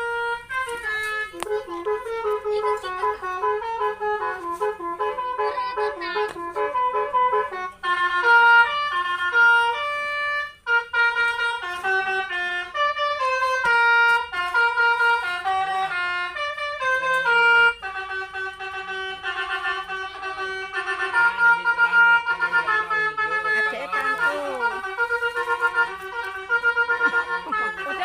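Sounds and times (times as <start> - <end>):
musical horn playing a melody: 0.0 - 28.0.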